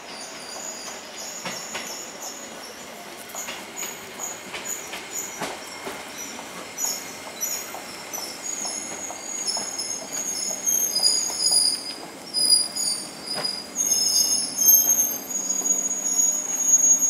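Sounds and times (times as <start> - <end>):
electric train pulling in: 0.0 - 17.0
train wheels squealing: 0.0 - 17.0.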